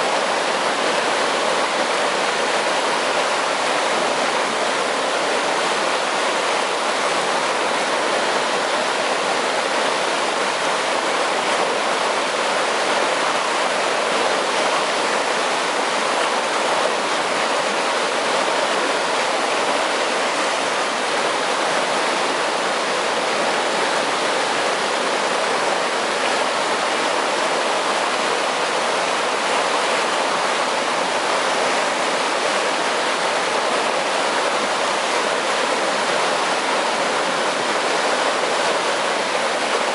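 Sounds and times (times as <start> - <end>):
water rushing through canal: 0.0 - 39.9.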